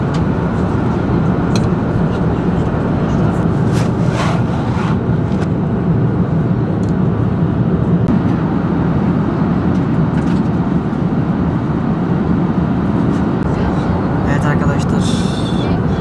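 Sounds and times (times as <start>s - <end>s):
jet airliner cabin noise: 0.0s - 16.0s.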